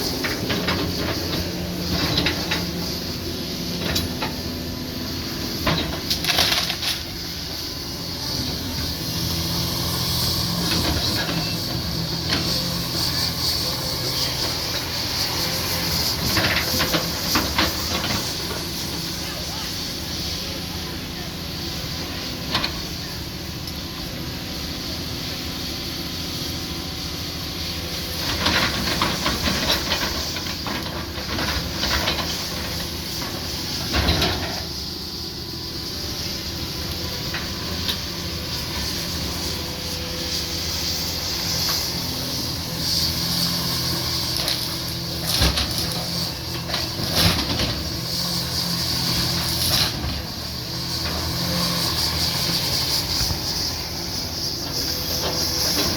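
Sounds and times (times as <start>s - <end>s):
heavy machine engine running: 0.0s - 55.9s.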